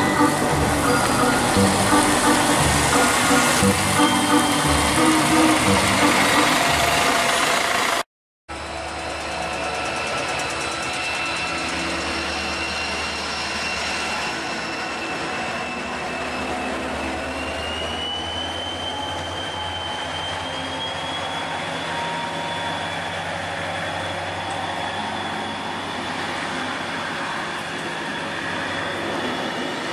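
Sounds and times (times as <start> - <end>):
high-pitched train whine: 0.0 - 29.9
train engine hum: 0.0 - 29.9.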